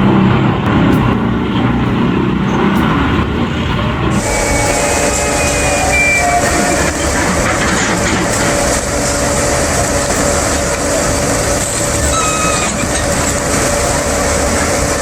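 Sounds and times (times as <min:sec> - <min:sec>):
constant machine whine: 0:00.0 - 0:15.0
heavy machinery running: 0:00.0 - 0:15.0.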